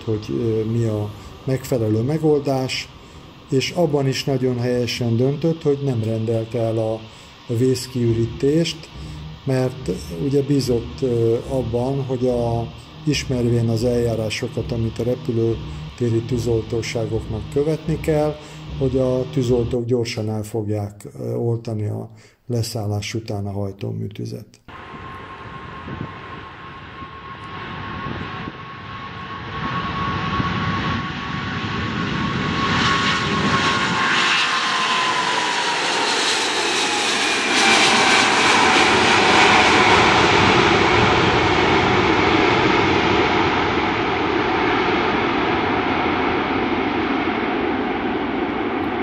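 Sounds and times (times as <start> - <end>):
jet airliner engines passing: 0.0 - 20.6, 24.7 - 49.0.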